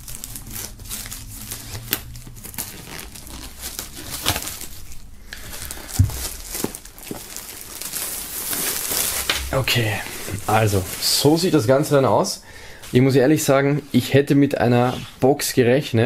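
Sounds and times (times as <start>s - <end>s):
plastic shrink-wrap crinkling: 0.0s - 14.2s.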